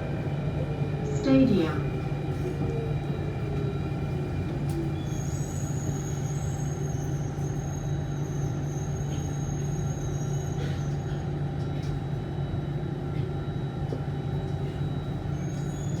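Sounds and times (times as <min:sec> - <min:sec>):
metro train rumble: 0:00.0 - 0:16.0.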